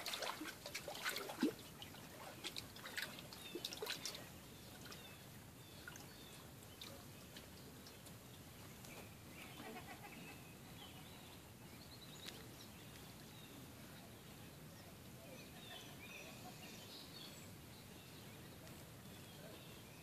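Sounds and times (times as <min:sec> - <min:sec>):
low steady background hiss: 0:00.0 - 0:20.0.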